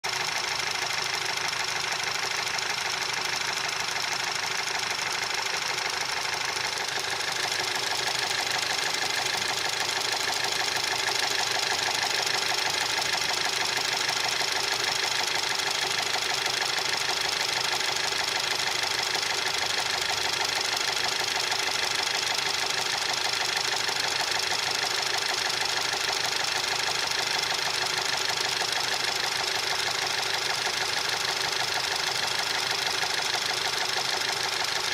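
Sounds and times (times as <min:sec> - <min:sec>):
fast engine knocking: 0:00.0 - 0:34.9
petrol engine running: 0:00.1 - 0:34.9.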